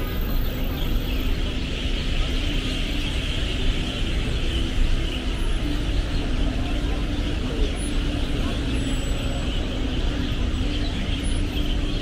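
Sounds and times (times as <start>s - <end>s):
city road traffic: 0.0s - 12.0s.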